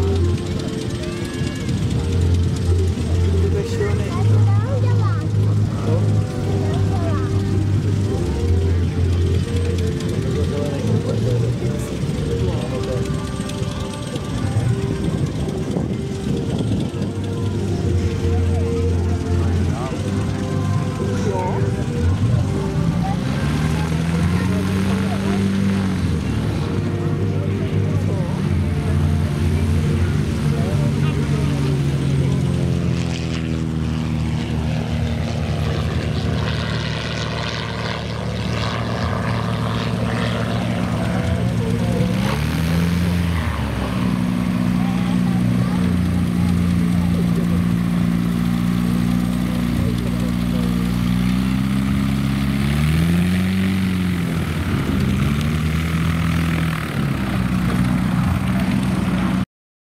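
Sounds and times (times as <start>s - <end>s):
light plane engine running: 0.0s - 59.5s.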